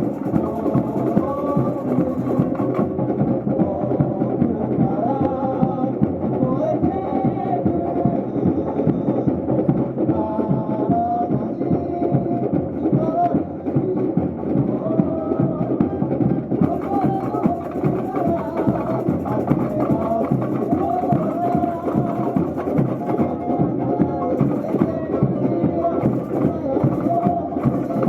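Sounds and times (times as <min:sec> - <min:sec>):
samba music: 0:00.0 - 0:28.0.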